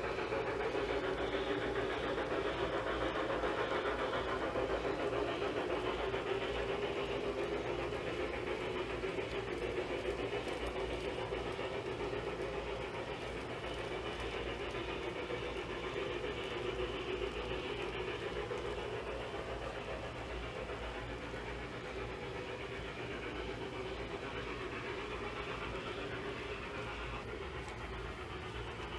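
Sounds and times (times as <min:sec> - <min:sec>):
model locomotive running: 0:00.0 - 0:28.9.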